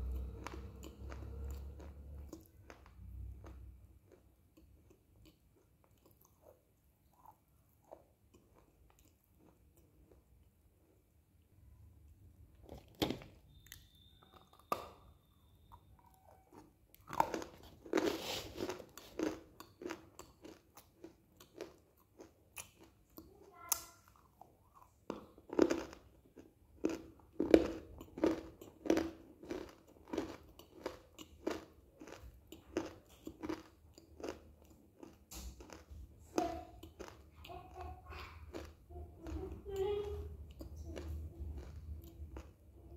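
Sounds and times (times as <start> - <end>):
crunchy chewing of clay: 0.0 - 10.6, 13.5 - 23.3, 24.0 - 39.6, 40.4 - 42.7.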